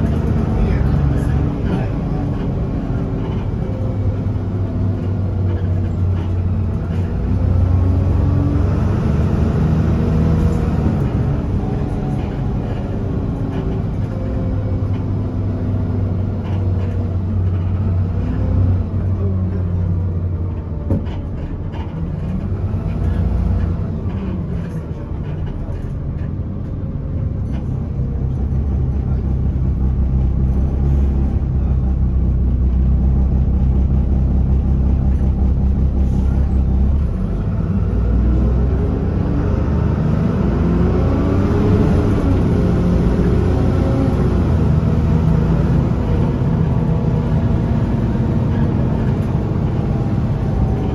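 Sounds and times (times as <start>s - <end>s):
bus diesel engine humming: 0.0s - 50.9s.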